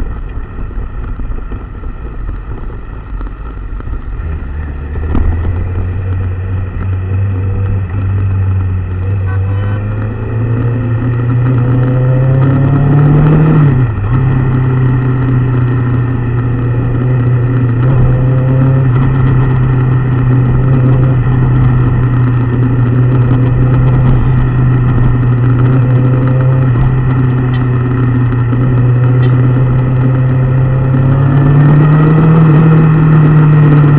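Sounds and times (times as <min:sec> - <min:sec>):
engine running: 0:00.0 - 0:33.9.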